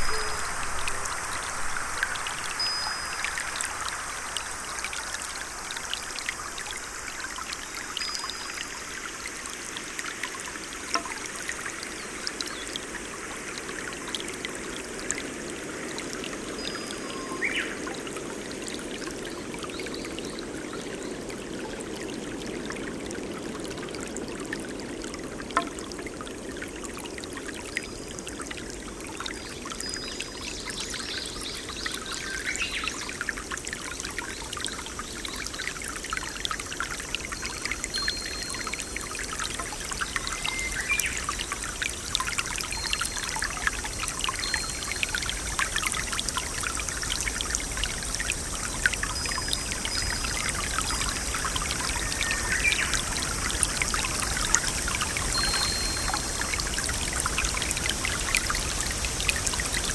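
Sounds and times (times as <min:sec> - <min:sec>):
water drips and splashes: 0:00.0 - 0:59.9
water trickling: 0:00.0 - 0:59.9.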